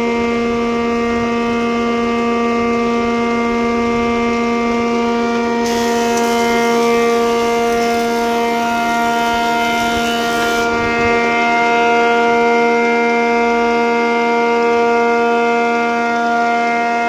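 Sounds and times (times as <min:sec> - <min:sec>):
planer machine howling: 0:00.0 - 0:17.0.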